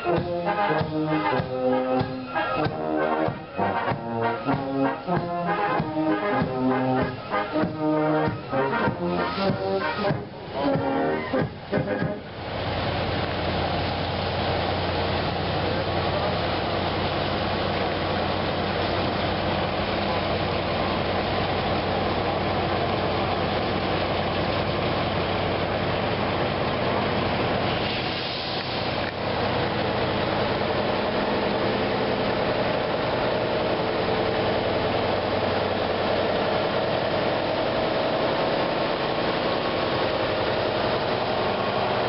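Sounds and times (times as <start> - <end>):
fire truck engines running: 0.0 - 42.0.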